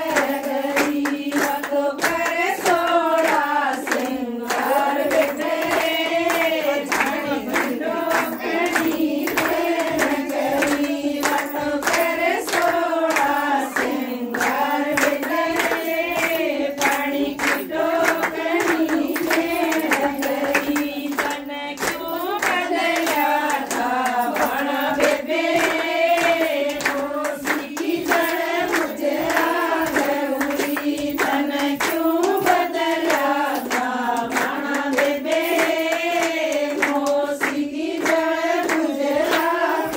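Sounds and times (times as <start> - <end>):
rhythmic hand-clapping: 0.0 - 39.9
women singing folk song: 0.0 - 39.9.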